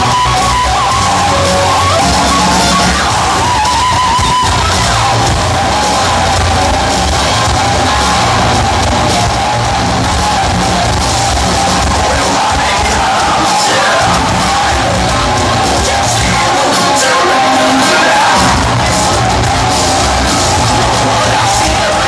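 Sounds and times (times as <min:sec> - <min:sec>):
bass: 0:00.0 - 0:22.0
distorted electric guitars: 0:00.0 - 0:22.0
drums: 0:00.0 - 0:22.0.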